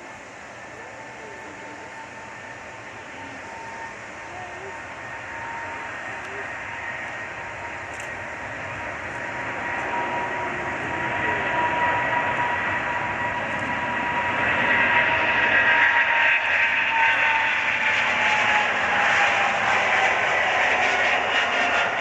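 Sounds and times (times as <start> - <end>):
jet engines roaring on takeoff: 0.0 - 22.0.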